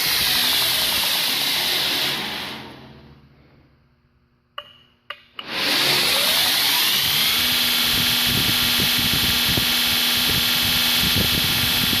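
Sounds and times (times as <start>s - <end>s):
belt grinder motor whine: 0.0s - 3.1s, 5.4s - 12.0s.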